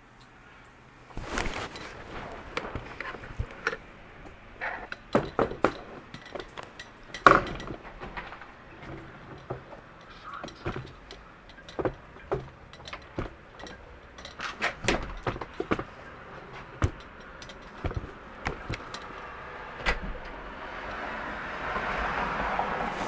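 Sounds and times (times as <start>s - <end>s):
objects clicking and knocking: 1.1s - 21.2s.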